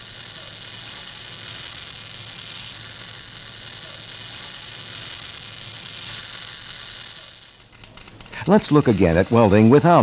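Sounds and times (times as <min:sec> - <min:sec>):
welding hiss: 0:00.0 - 0:10.0.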